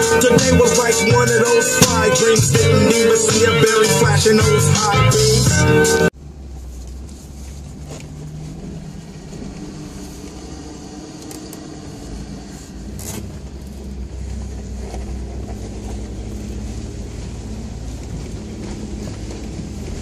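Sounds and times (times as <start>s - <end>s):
vehicle clicks and knocks over bumps: 0.0s - 5.0s, 6.1s - 20.0s
vehicle engine running at low speed: 0.0s - 20.0s.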